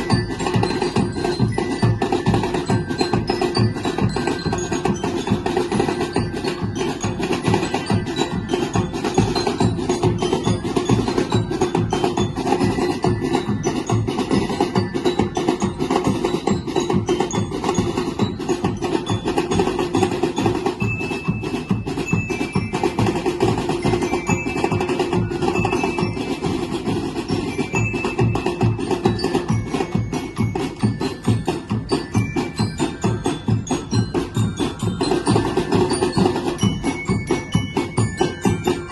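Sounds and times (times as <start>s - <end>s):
fast percussion beat: 0.0s - 38.9s
ringing bell-like notes: 0.0s - 38.9s.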